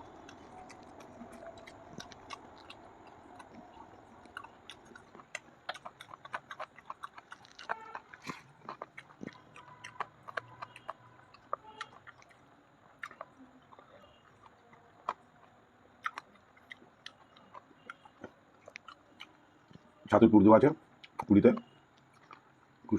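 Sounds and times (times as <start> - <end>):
chewing and lip smacking: 0.0 - 20.2, 20.9 - 22.9.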